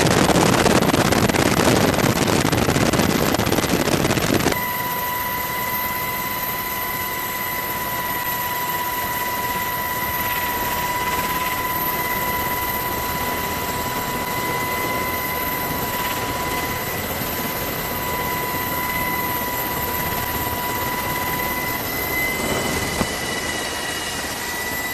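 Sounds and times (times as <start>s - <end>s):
helicopter cabin rushing noise: 0.0s - 24.9s
high turbine whine: 0.0s - 24.9s.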